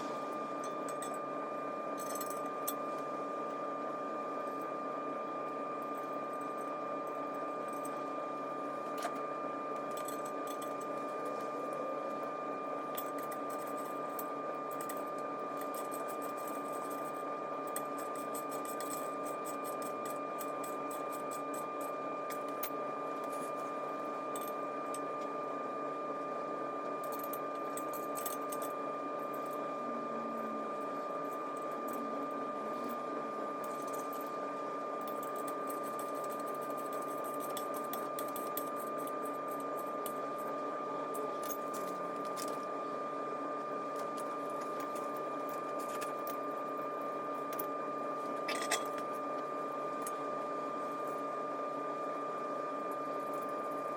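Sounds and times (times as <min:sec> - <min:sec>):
mechanical hum with high whine: 0:00.0 - 0:53.9.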